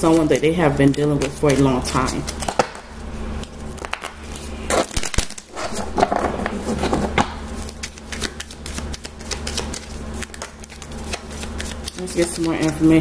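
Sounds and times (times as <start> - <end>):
cards being shuffled by hand: 0.0 - 13.0.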